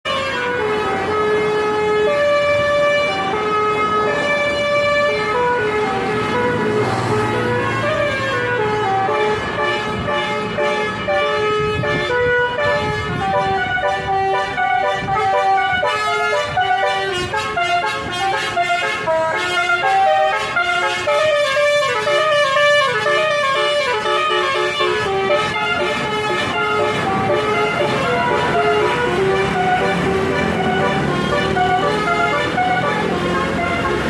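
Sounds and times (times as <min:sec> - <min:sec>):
multi-tone bus horn melody: 0:00.0 - 0:34.0.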